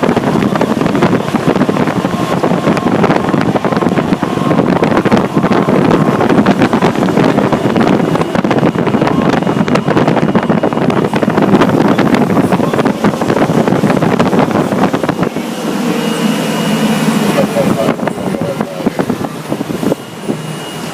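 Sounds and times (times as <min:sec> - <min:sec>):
engine and road noise: 0:00.0 - 0:20.9.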